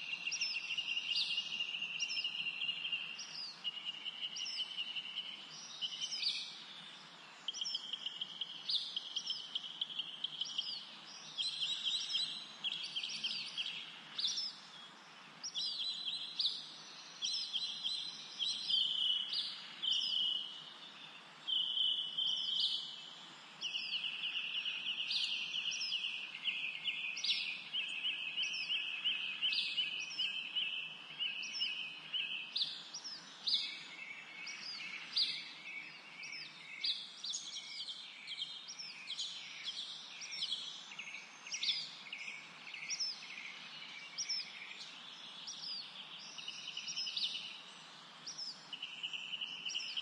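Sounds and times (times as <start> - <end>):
songbirds calling high notes: 0.0 - 50.0.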